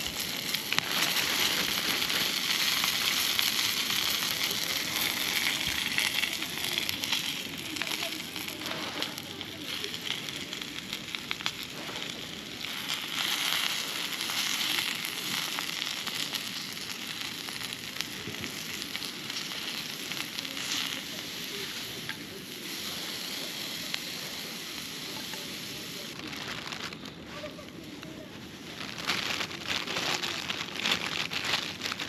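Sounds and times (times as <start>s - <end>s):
spinach sizzling in hot oil: 0.0s - 32.0s.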